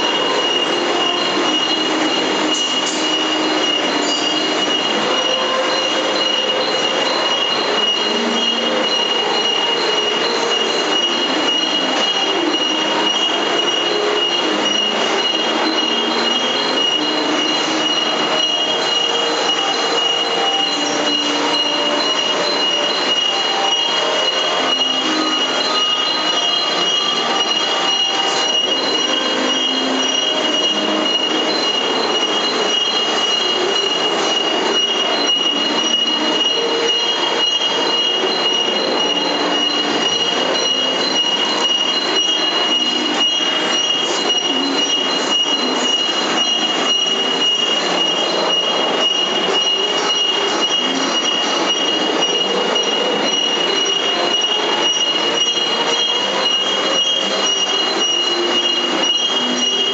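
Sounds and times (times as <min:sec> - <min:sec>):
machine high whine: 0:00.0 - 0:59.9.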